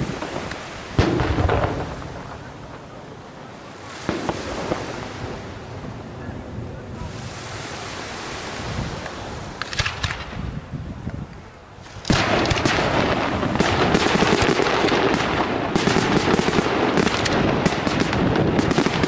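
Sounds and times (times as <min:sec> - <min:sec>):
firework bangs: 0:00.0 - 0:08.1, 0:08.8 - 0:10.7, 0:11.9 - 0:19.0
firework crackling: 0:00.0 - 0:19.0
wind noise on microphone: 0:00.0 - 0:19.0.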